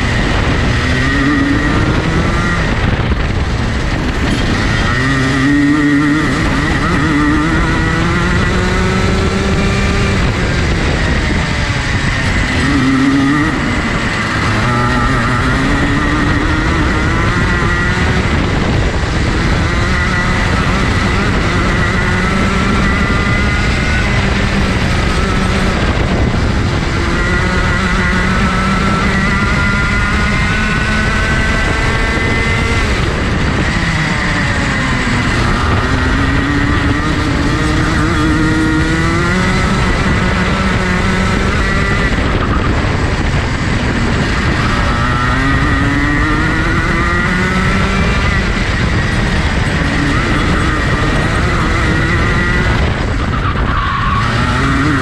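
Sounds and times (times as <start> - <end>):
kart two-stroke engine racing: 0.0 - 55.0.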